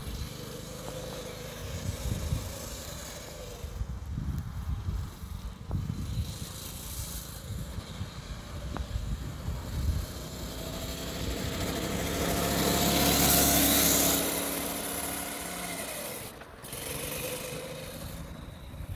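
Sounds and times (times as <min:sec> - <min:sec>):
small vehicle engine passing: 0:00.0 - 0:18.9.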